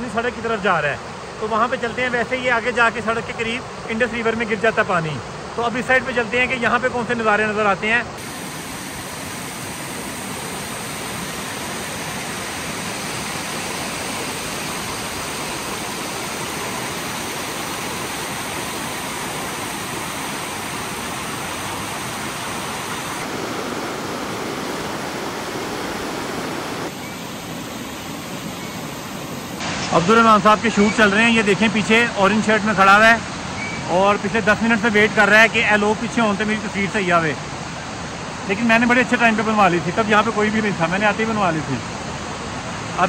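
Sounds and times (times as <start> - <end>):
waterfall rushing and splashing: 0.0 - 43.0.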